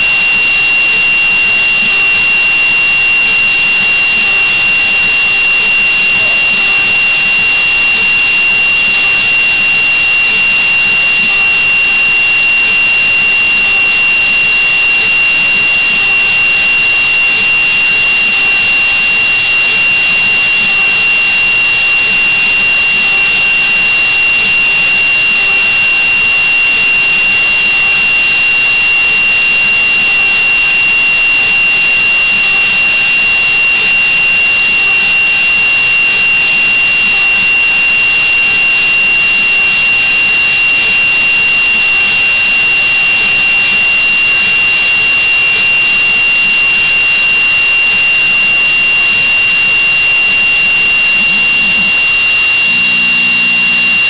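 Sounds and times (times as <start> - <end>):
router spindle whine: 0.0 - 54.0.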